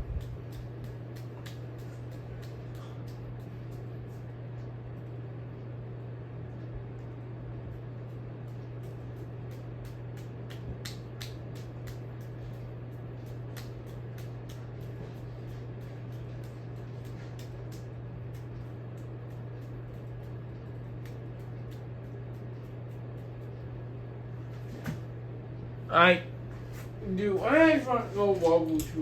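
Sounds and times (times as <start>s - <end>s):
ceiling fan motor hum: 0.0s - 29.0s.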